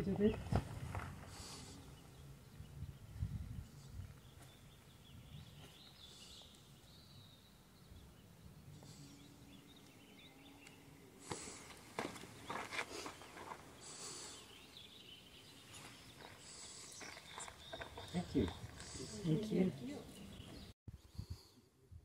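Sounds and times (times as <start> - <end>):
distant bird chirps: 1.2 - 21.6.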